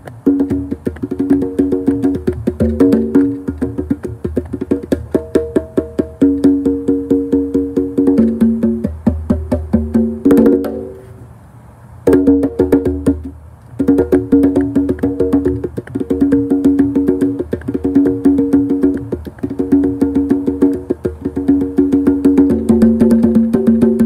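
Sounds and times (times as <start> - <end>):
congas played by hand: 0.0 - 11.2, 12.0 - 24.0.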